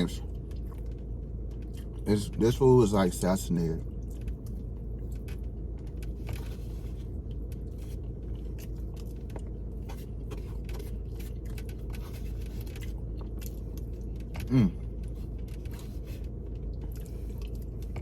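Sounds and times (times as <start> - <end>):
car cabin hum: 0.0 - 18.0.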